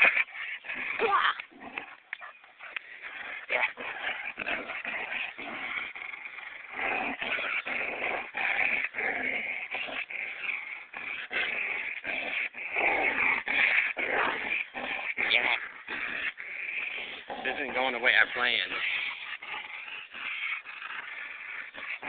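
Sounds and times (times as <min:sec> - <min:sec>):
dog growling and whimpering: 0:00.0 - 0:22.0.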